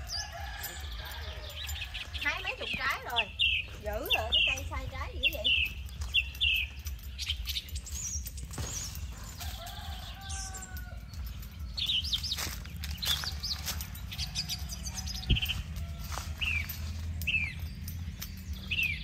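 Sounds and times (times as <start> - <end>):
footsteps on dry leaves: 0.0 - 19.0
small birds chirping: 0.0 - 19.0.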